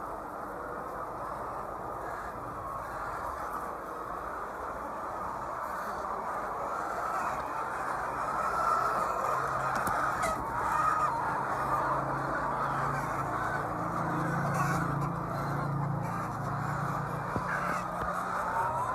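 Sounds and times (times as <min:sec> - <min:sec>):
hens clucking: 0:00.0 - 0:18.9.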